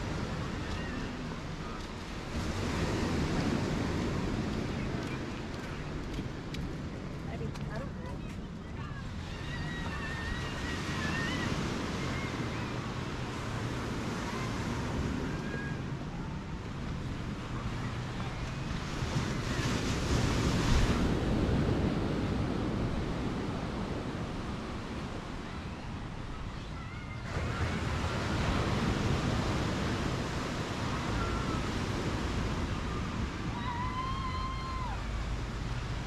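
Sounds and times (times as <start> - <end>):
surf washing onto beach: 0.0 - 36.0
wind buffeting microphone: 0.0 - 36.0.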